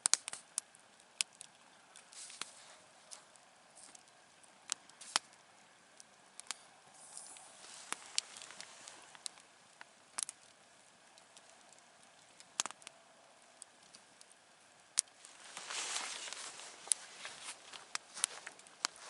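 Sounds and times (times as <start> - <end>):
campfire crackling and popping: 0.0 - 19.0
soft rushing hiss: 0.0 - 19.0.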